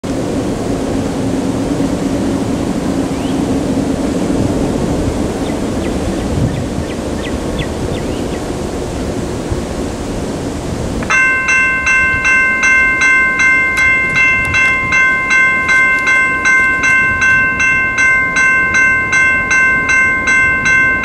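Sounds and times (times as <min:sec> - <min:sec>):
low outdoor rumble with hum: 0:00.0 - 0:21.0.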